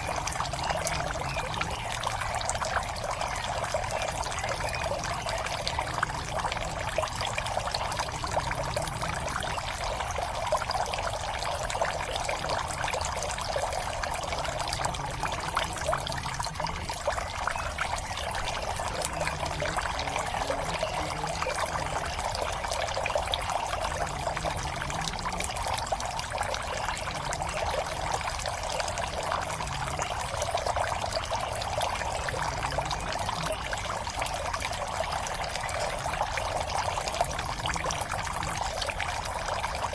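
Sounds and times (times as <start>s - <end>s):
water pouring into pond: 0.0s - 39.9s.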